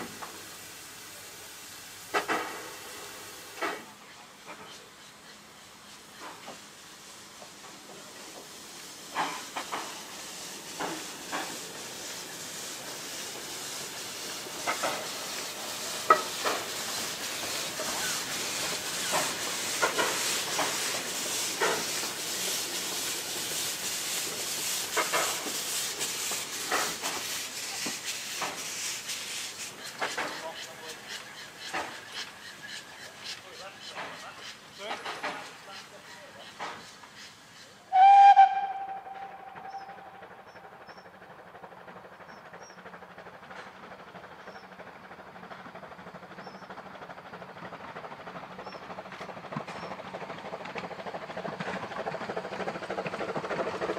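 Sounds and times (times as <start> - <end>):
steam locomotive hissing steam: 0.0 - 53.9.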